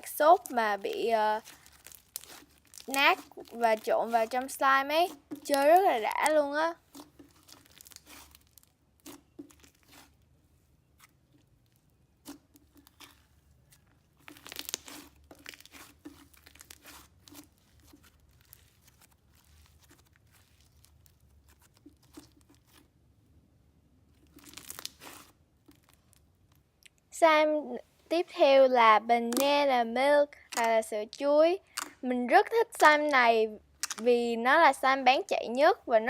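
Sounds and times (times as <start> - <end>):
slime crackling and crunching: 0.0 - 23.0, 24.1 - 27.0, 30.4 - 32.0, 32.6 - 34.1.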